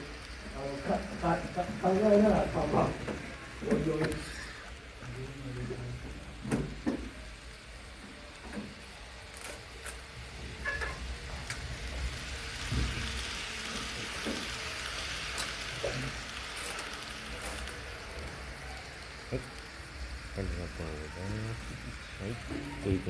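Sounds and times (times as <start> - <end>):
model train rattling on track: 0.0 - 5.0, 5.6 - 23.0.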